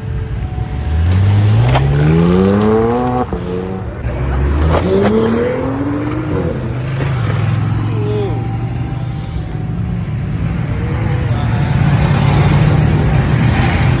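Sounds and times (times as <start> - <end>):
engine revving and idling: 0.0 - 14.0.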